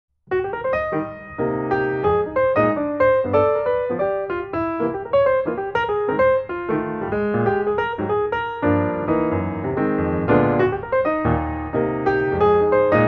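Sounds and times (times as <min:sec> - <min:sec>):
background piano music: 0:00.3 - 0:13.0.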